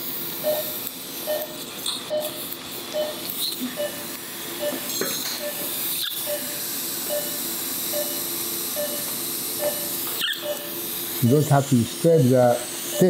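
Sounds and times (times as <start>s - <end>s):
steady hiss: 0.0s - 13.0s
patient monitor beeping: 0.4s - 11.7s, 12.8s - 13.0s.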